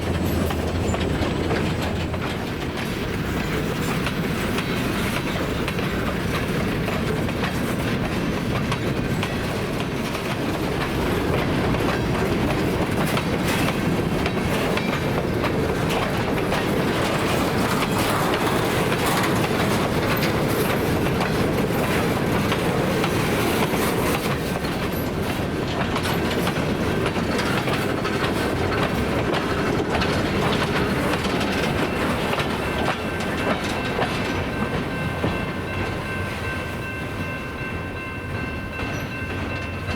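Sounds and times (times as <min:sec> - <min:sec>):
train rumble: 0:00.0 - 0:39.9
train wheels clacking on rail joints: 0:00.0 - 0:39.9.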